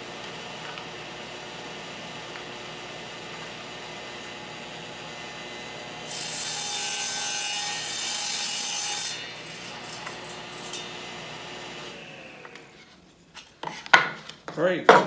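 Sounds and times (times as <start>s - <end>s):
table saw running: 0.0s - 12.8s
table saw cutting plywood: 0.0s - 13.0s.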